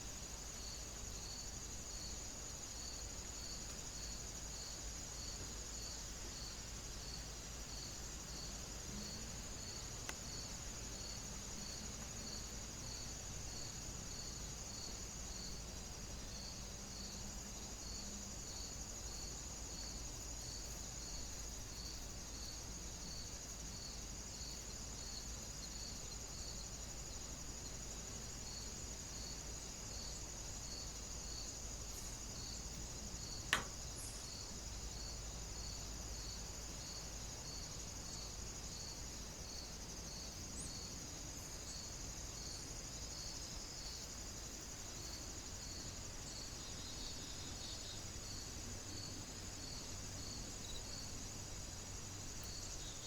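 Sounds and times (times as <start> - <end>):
faint hiss: 0.0 - 53.0
insects chirping: 0.0 - 53.0.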